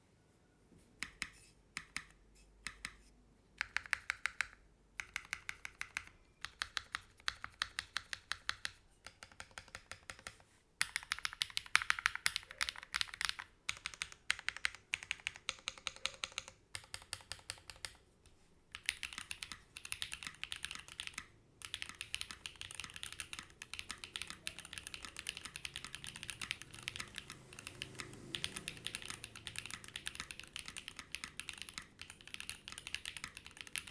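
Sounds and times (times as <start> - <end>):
typing on mechanical keyboard: 3.6 - 18.0, 18.7 - 33.9.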